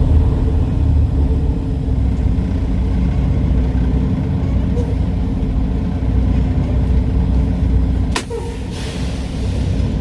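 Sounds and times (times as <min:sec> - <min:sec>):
truck diesel engine idling: 0:00.0 - 0:10.0.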